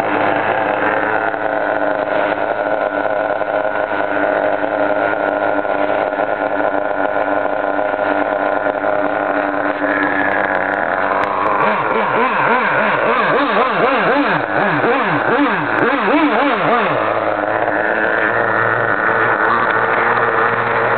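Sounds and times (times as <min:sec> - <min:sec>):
model car motor revving: 0:00.0 - 0:20.9.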